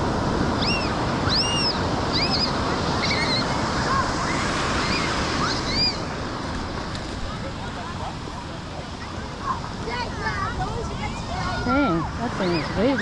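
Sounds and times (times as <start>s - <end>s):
beach surf washing: 0.0s - 13.0s.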